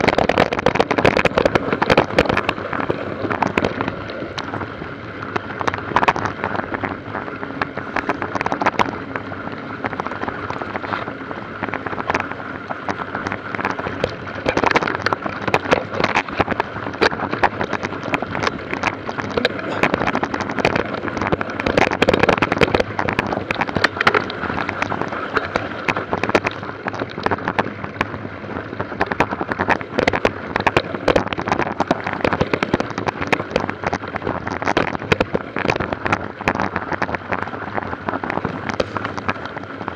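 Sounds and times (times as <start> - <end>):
mountain bike rattling on trail: 0.0 - 39.9.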